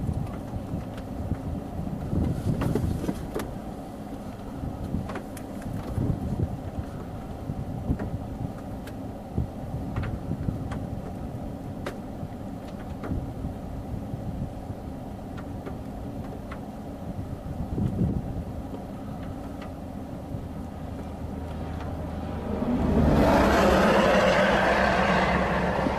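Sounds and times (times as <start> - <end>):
vehicle engine idling: 3.5 - 25.9.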